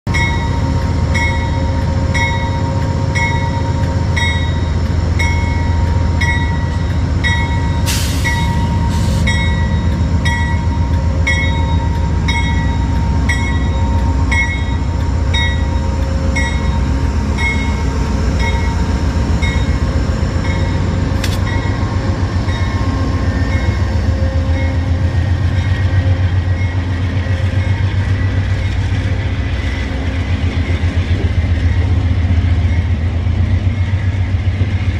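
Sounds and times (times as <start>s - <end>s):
passing train rumble: 0.0s - 34.9s.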